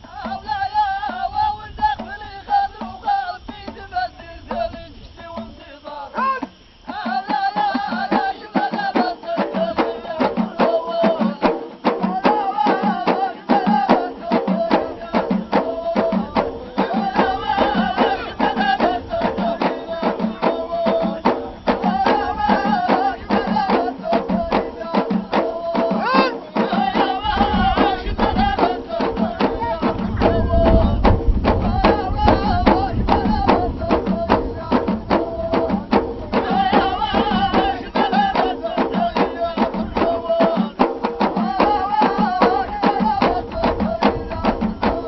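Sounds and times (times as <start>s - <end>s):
frame drums beating: 0.0s - 45.0s
group of voices chanting: 5.8s - 45.0s.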